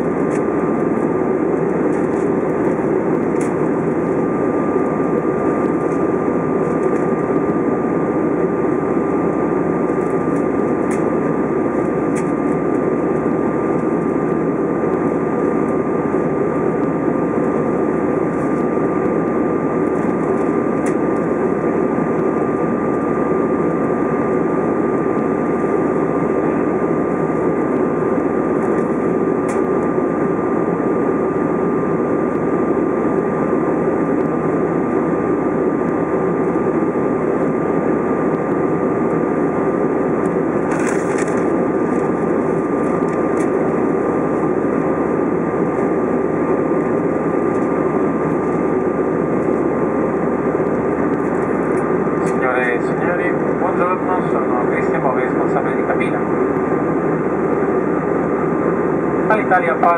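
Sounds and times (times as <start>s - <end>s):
aircraft engine and airflow roar: 0.0s - 59.9s
thin high whine: 0.0s - 59.9s.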